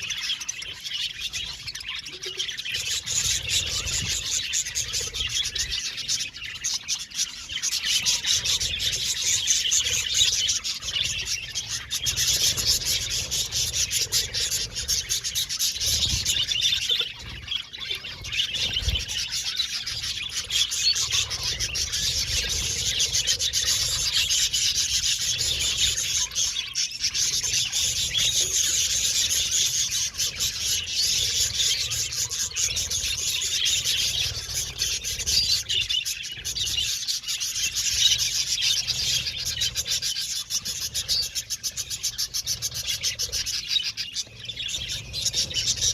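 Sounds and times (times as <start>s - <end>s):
budgerigars chattering and chirping: 0.0s - 45.9s.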